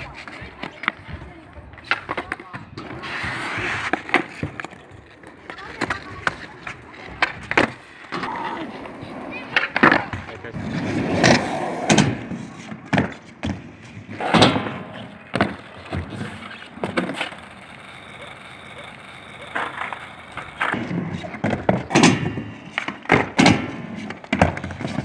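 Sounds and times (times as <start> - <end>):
skateboard clacking down: 0.0 - 25.0
skateboard wheels rolling: 0.0 - 25.0.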